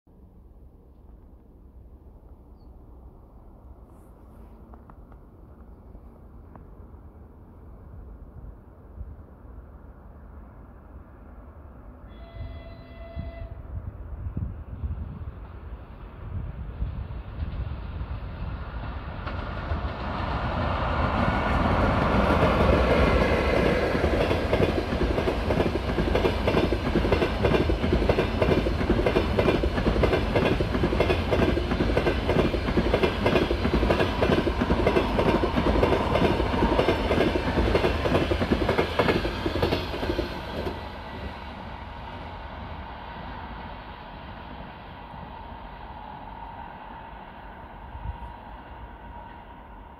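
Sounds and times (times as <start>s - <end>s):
passenger train passing: 0.1s - 49.9s.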